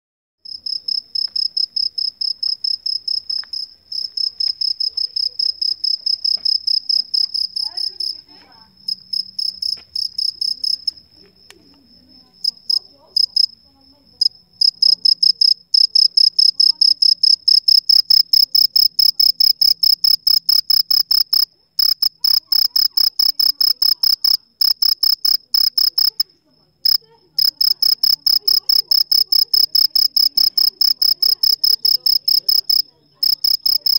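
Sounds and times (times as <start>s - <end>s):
cricket chirping: 0.5s - 8.2s, 8.8s - 33.9s.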